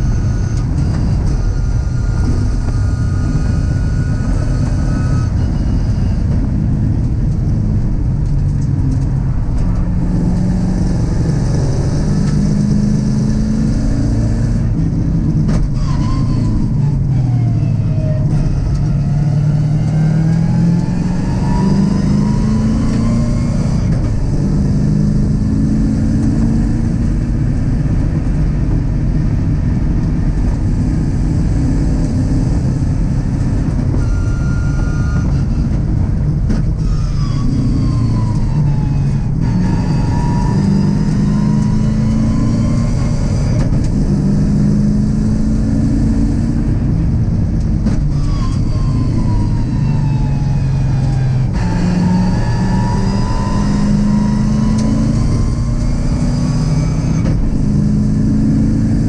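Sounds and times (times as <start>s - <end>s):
race car engine: 0.0s - 59.0s
wind and tyre noise: 0.0s - 59.0s.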